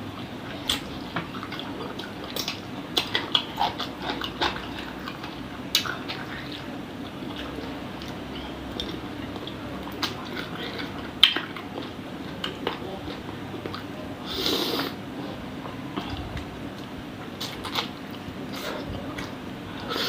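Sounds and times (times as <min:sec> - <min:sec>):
person wet chewing: 0:00.5 - 0:13.9, 0:16.0 - 0:20.0.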